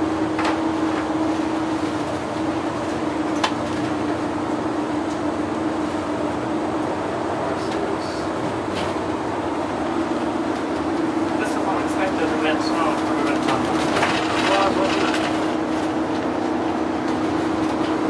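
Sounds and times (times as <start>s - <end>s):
bus engine and road drone: 0.0s - 18.0s.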